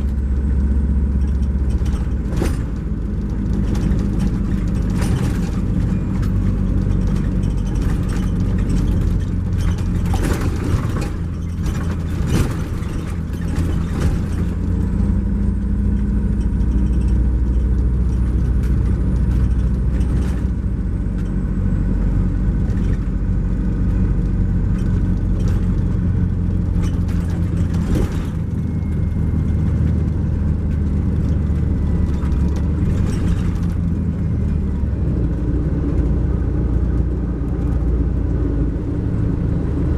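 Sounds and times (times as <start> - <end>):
sharp knocks and rattles: 0.0 - 21.4, 22.5 - 38.0
diesel engine droning inside bus: 0.0 - 39.9.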